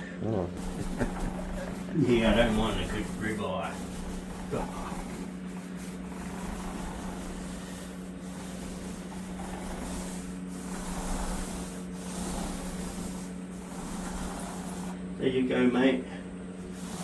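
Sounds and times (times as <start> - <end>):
steady low hum: 0.0 - 17.0
paint roller rubbing on wall: 0.6 - 17.0.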